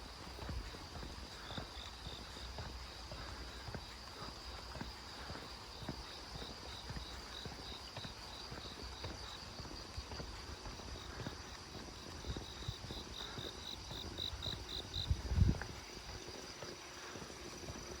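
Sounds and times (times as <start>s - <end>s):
footsteps on a path: 0.0s - 18.0s
insects chirping: 0.0s - 18.0s.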